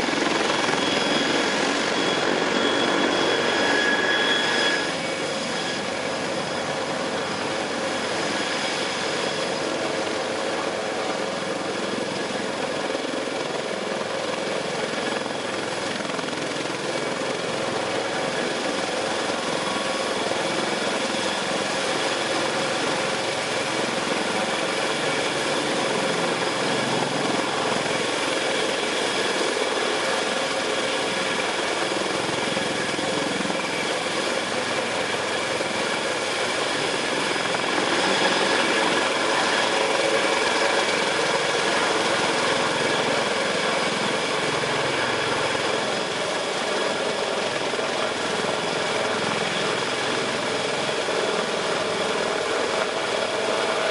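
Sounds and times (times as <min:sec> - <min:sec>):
helicopter engine whine: 0:00.0 - 0:53.9.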